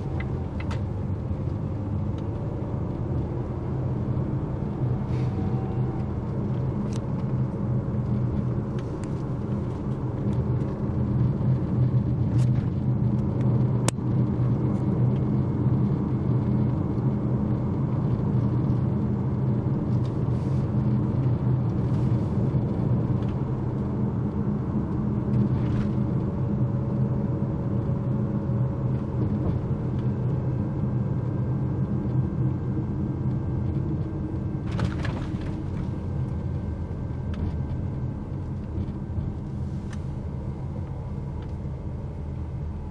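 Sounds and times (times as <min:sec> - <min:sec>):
road and engine rumble in car: 0:00.0 - 0:42.9.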